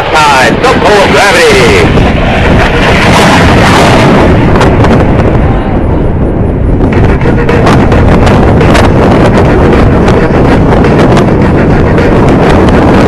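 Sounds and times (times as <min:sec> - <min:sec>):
jet afterburner roar: 0:00.0 - 0:13.0.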